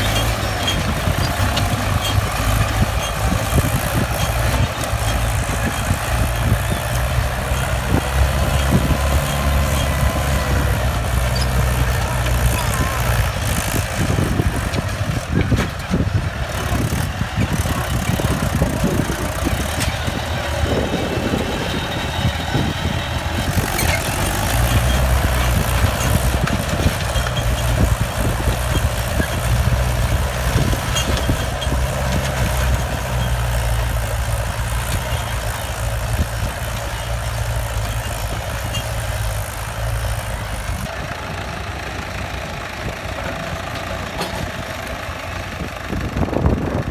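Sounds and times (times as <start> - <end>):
second tractor engine running: 0.0 - 46.9
tractor diesel engine under load: 0.0 - 46.9.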